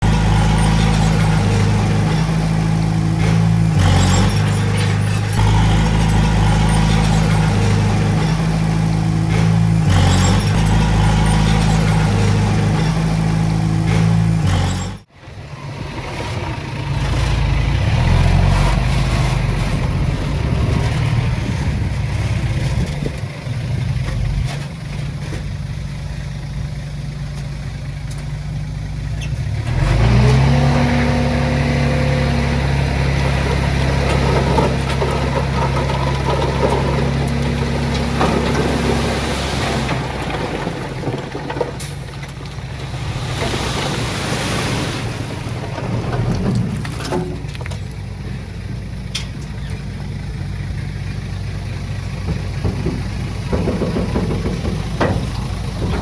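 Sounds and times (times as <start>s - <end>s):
heavy diesel machinery engines: 0.0s - 56.0s.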